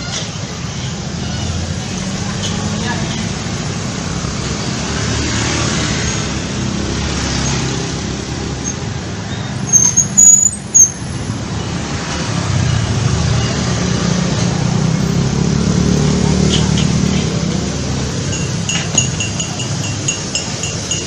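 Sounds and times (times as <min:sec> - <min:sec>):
rumble of passing traffic: 0:00.0 - 0:21.0.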